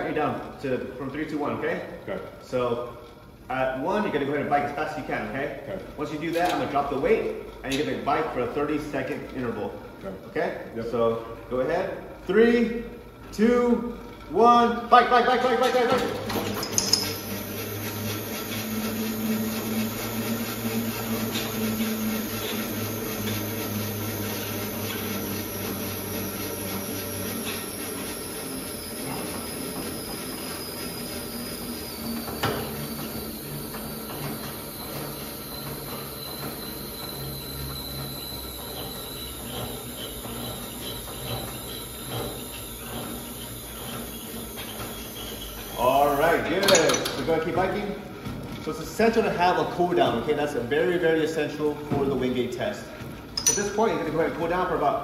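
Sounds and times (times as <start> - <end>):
flywheel whirring whine: 0.0 - 55.0.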